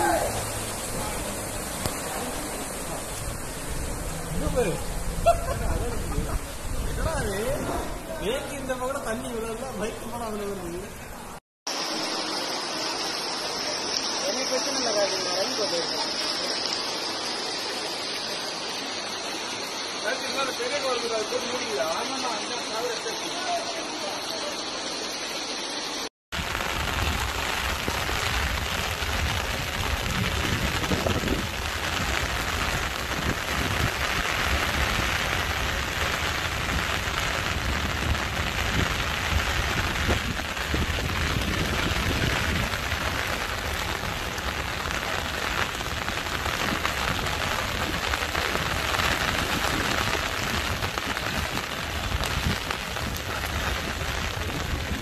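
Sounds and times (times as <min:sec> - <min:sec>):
heavy rain pouring onto water: 0:00.0 - 0:55.0.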